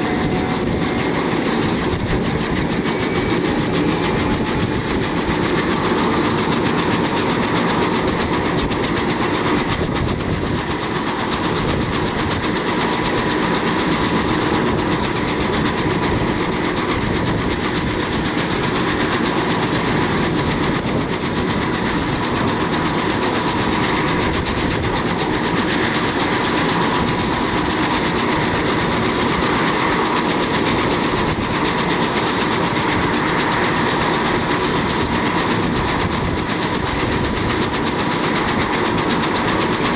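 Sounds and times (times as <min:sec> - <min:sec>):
helicopter engine whine: 0:00.0 - 0:39.9
helicopter rotor chop: 0:00.0 - 0:39.9.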